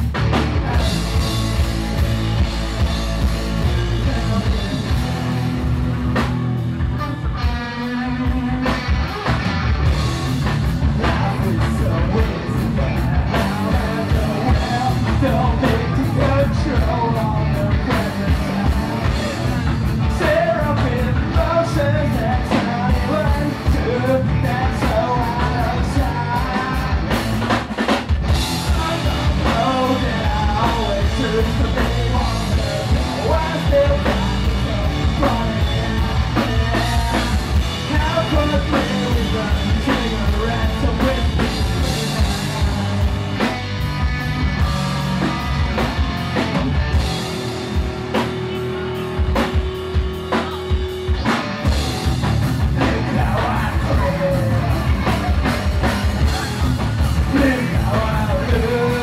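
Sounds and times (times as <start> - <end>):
drum kit: 0.0 - 59.0
electric bass: 0.0 - 59.0
electric guitar: 0.0 - 59.0
man singing: 0.2 - 2.2, 3.4 - 5.6, 7.0 - 45.5, 52.0 - 59.0.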